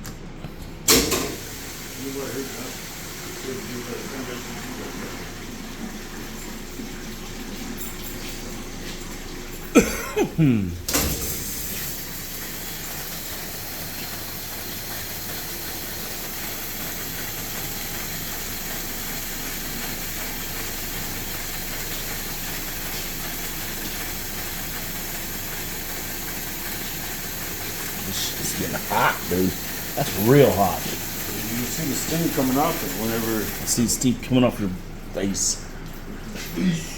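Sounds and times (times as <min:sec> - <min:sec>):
dishwasher water spray hissing: 0:00.8 - 0:36.9.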